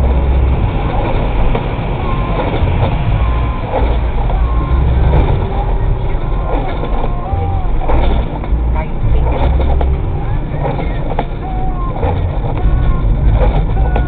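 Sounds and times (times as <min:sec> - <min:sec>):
car road noise on wet road: 0:00.0 - 0:14.0
lorry passing: 0:00.0 - 0:14.0.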